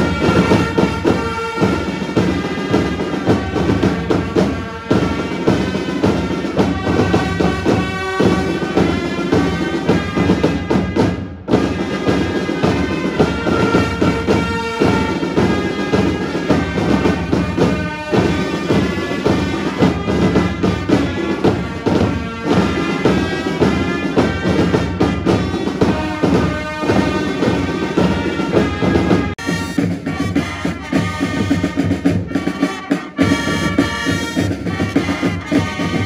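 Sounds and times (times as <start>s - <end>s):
fanfare trumpets: 0.0s - 36.0s
marching drums: 0.0s - 36.0s.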